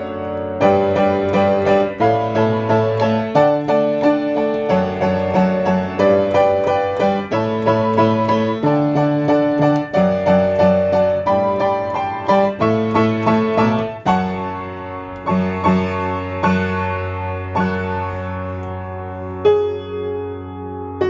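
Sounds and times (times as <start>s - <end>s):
slow piano ballad: 0.0s - 21.0s.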